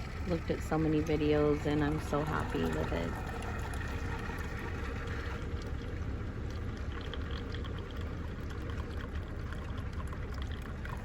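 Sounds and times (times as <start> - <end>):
coffee maker gurgling and sputtering: 0.0 - 11.0
steady low hum: 0.0 - 11.0.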